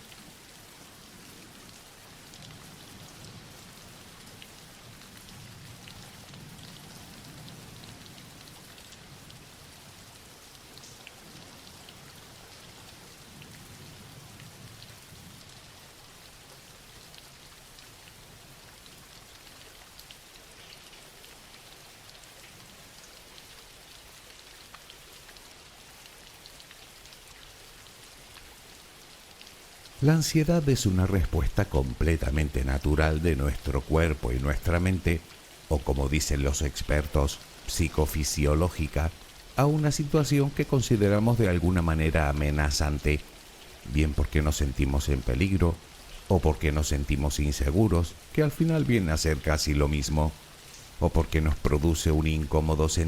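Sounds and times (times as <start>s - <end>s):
soft rain pattering: 0.0s - 53.0s.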